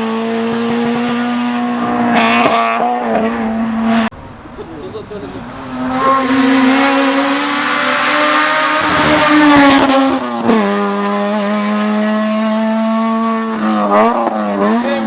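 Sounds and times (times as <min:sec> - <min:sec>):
race car engine at high revs: 0:00.0 - 0:04.1, 0:05.0 - 0:15.0.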